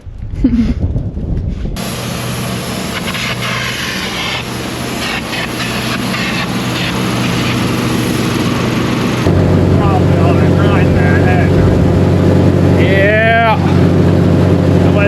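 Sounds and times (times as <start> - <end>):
heavy equipment engine running: 1.0 - 15.0.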